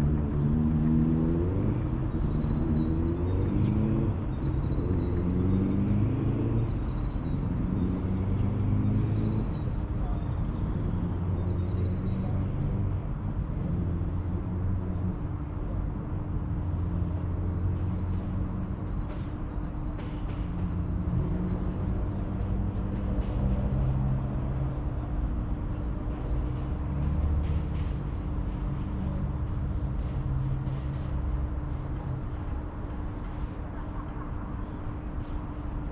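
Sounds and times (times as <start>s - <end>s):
constant hum: 0.0s - 35.9s
distant city traffic rumble: 0.0s - 35.9s.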